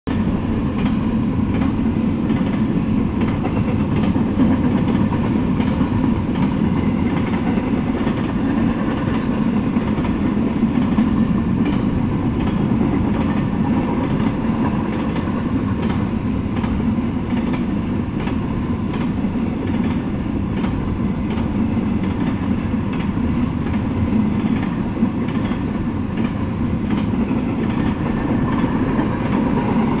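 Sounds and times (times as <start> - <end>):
train wheels rumbling on rails: 0.1 - 30.0.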